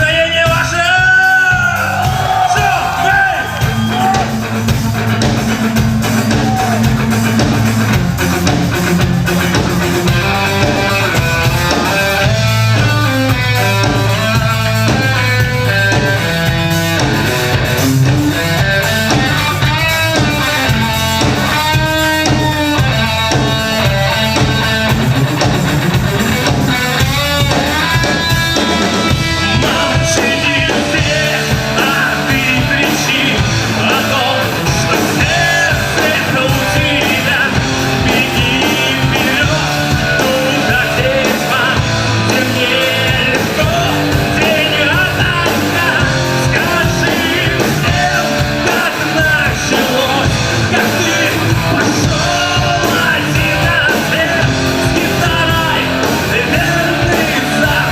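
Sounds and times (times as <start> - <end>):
drum kit: 0.0 - 57.9
electric guitar: 0.0 - 57.9
steady bass line: 0.0 - 57.9.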